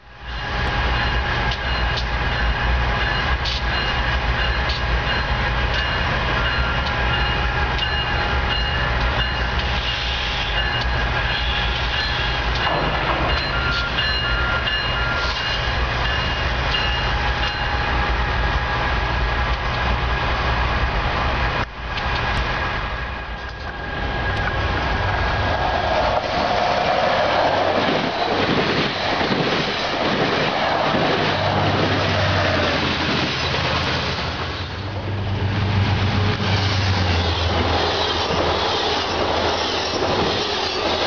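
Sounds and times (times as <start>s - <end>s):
diesel locomotive engine rumble: 0.0s - 41.0s.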